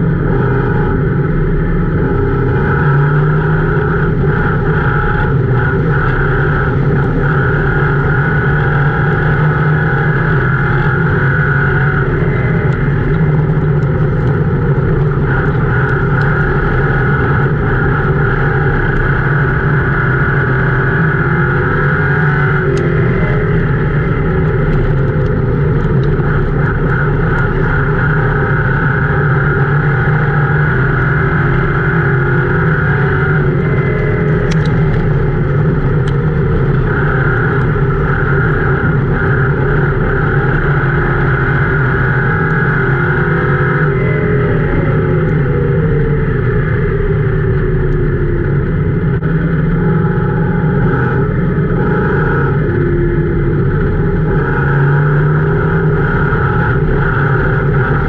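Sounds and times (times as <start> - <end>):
car engine running hard: 0.0 - 58.0.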